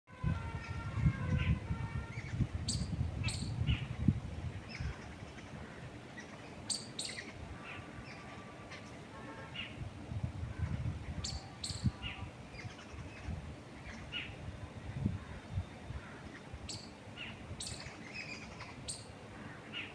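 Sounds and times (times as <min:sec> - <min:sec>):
wind rumbling: 0:00.1 - 0:06.2, 0:09.5 - 0:19.6
birds chirping: 0:00.6 - 0:09.8, 0:10.5 - 0:14.4, 0:15.0 - 0:19.9.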